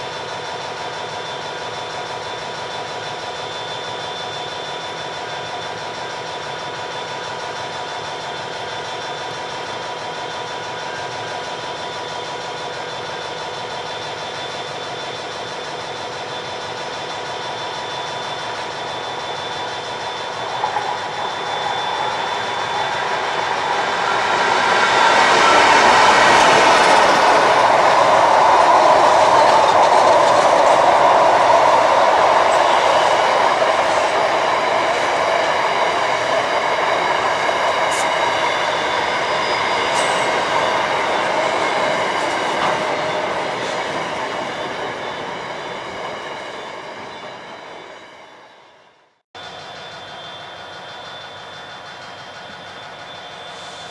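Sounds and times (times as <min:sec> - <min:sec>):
train rumbling past: 0:00.0 - 0:53.9.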